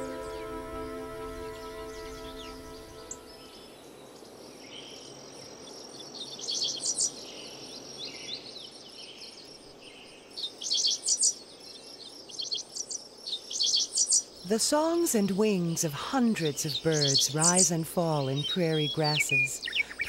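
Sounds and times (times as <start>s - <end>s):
songbirds chirping: 0.0s - 20.0s
steady background hiss: 0.0s - 20.0s.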